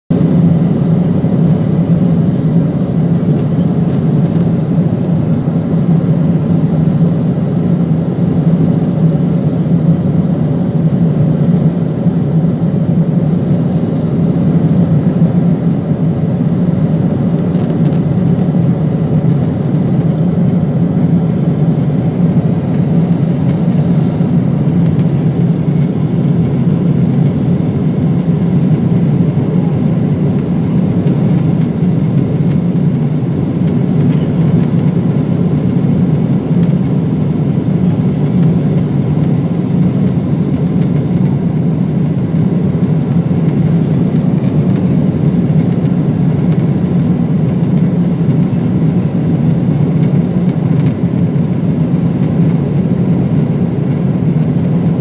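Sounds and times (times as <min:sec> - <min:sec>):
airliner cabin engine drone: 0:00.1 - 0:55.0.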